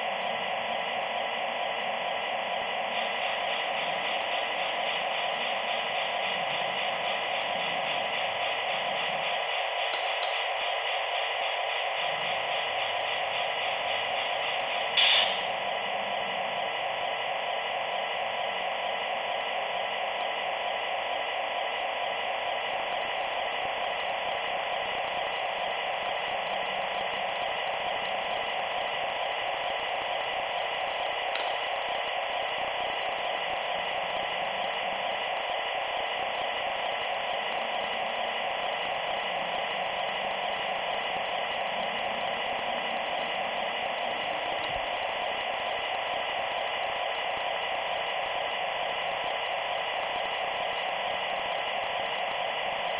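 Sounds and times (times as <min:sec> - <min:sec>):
model locomotive hissing drone: 0:00.0 - 0:52.9.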